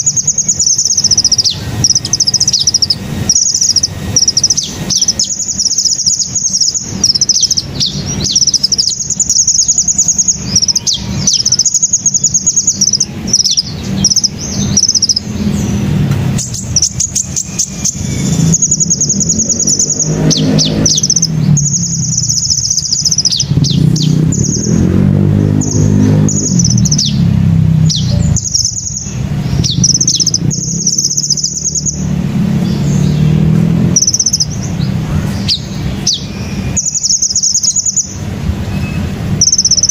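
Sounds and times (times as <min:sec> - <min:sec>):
sunbirds chirping and trilling: 0:00.0 - 0:39.9
traffic engine rumble: 0:00.0 - 0:39.9.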